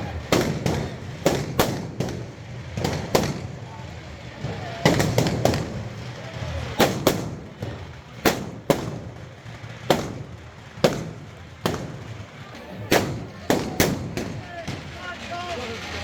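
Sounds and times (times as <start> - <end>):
firecracker bangs with echo: 0.0 - 16.0.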